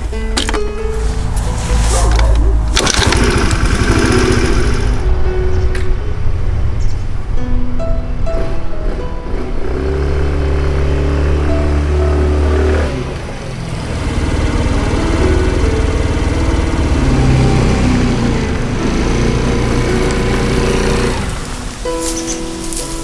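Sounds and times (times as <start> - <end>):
background music with low chords: 0.0 - 23.0.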